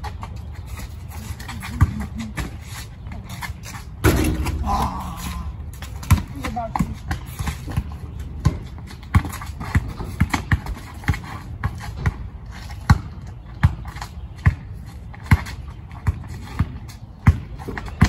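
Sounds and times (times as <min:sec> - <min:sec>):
basketball bouncing on concrete: 0:00.0 - 0:18.0.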